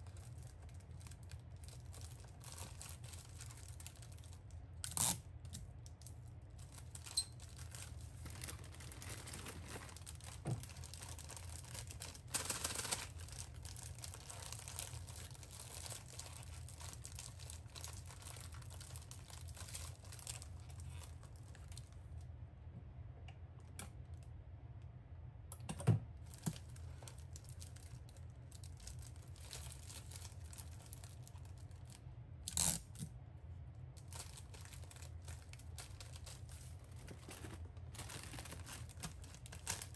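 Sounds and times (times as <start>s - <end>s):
plastic bags crinkling: 0.0s - 22.0s, 26.2s - 33.0s, 34.0s - 39.9s.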